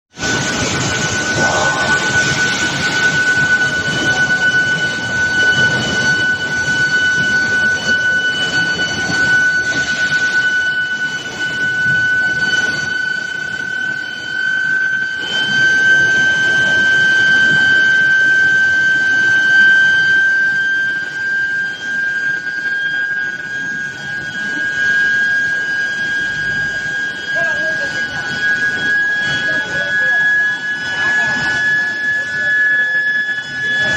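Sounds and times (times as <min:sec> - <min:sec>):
induction coil whine: 0:00.2 - 0:33.9
machinery rumble: 0:00.2 - 0:33.9.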